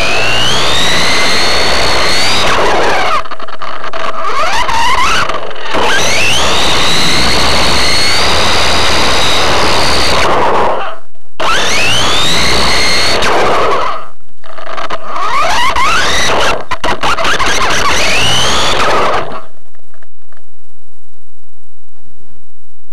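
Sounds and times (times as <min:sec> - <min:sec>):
electric rc car motor whining: 0:00.0 - 0:10.3, 0:11.4 - 0:19.5.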